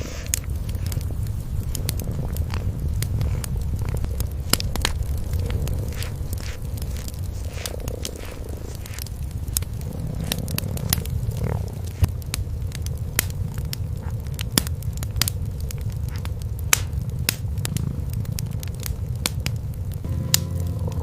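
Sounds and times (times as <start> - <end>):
cats purring: 0.0 - 21.0
wood fire crackling and popping: 0.0 - 21.0.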